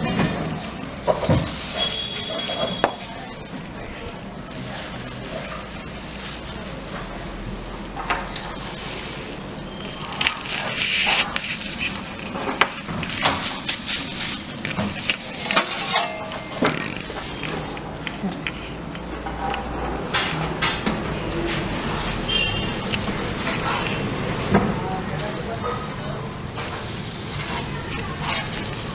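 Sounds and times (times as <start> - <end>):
kitchen background noise: 0.0 - 28.9.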